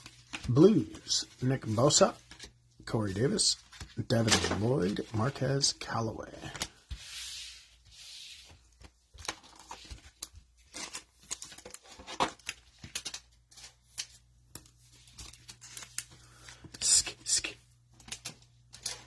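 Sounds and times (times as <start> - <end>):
cards being handled: 0.0 - 19.0.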